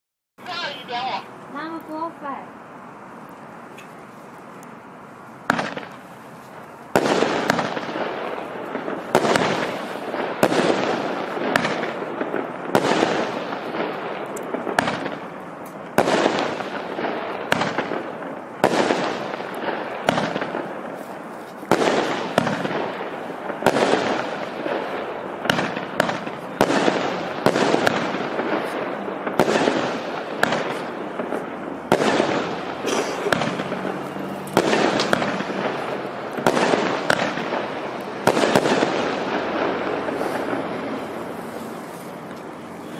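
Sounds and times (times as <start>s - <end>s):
firework shots with hiss: 5.4s - 42.9s.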